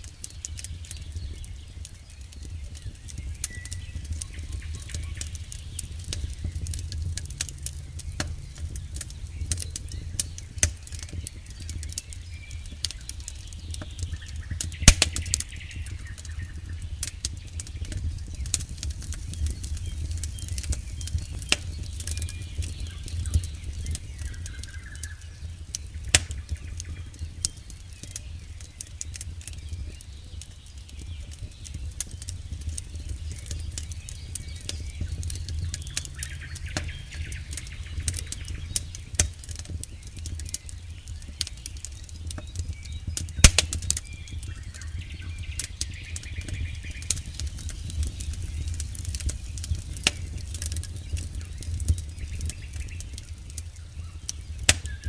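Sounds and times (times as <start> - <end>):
campfire crackling and popping: 0.0 - 55.0
low rumble of flames: 0.0 - 55.0.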